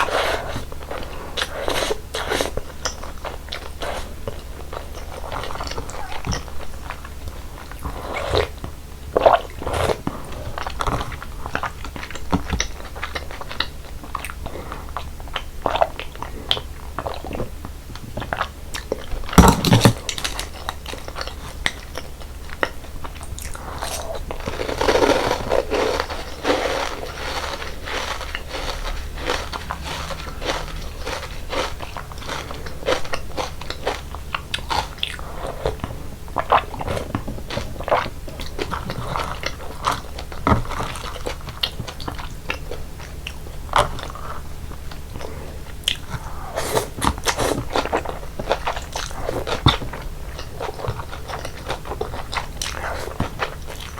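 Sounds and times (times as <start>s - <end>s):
chewing and crunching: 0.0s - 53.9s.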